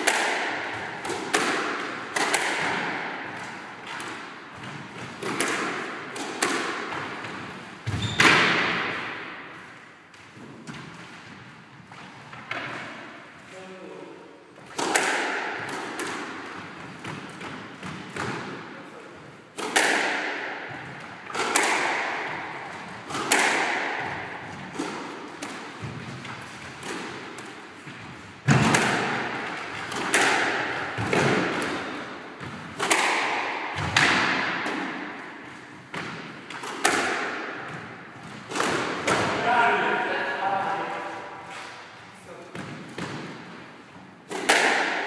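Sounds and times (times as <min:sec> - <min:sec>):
squash ball hits echoing: 0:00.0 - 0:13.4, 0:14.6 - 0:18.8, 0:19.4 - 0:45.0.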